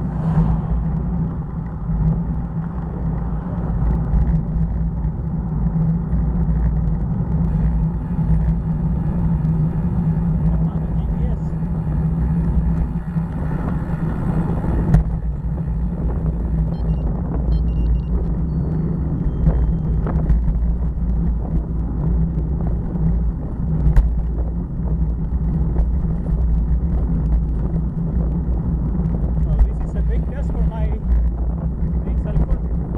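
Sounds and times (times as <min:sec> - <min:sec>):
tyre rumble on rough pavement: 0:00.0 - 0:32.9
wind buffeting microphone: 0:00.0 - 0:32.9.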